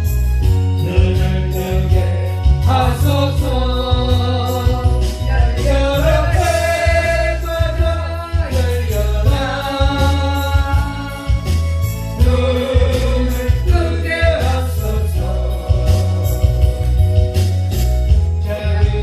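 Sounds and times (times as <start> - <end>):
gospel band music: 0.0 - 19.0
jingling percussion: 0.0 - 19.0.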